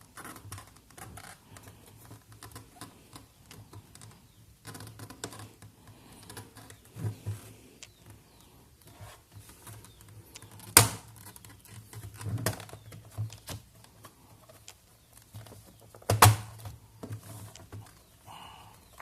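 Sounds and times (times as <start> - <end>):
plastic clicking and scraping: 0.0 - 18.1.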